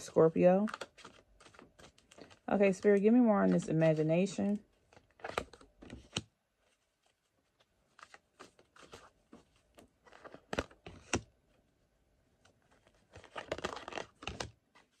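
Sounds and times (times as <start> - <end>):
cards being shuffled: 0.0 - 4.1, 4.8 - 11.3, 12.4 - 15.0.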